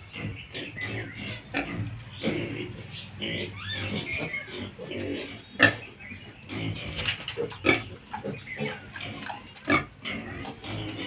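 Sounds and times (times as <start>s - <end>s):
piglets grunting: 0.0s - 11.0s
sharp piglet calls: 0.1s - 9.8s.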